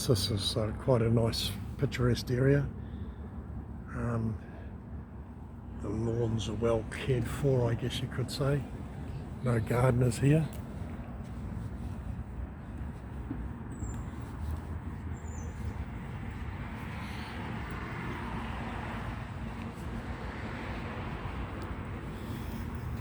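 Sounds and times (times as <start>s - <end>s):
road traffic going by: 0.0s - 23.0s
vehicle passing: 2.8s - 23.0s.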